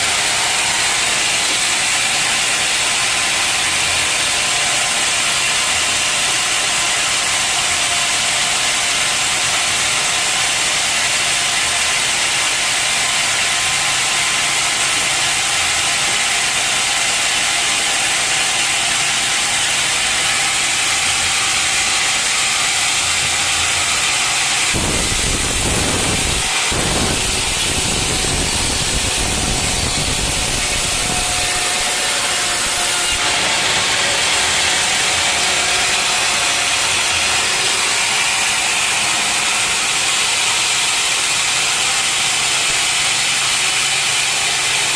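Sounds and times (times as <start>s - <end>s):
sawmill saw cutting log: 0.0s - 44.9s.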